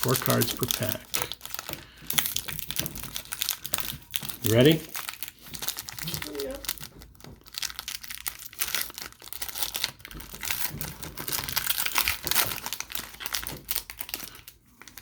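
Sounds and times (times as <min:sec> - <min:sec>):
wrapper tearing and crinkling: 0:00.0 - 0:15.0.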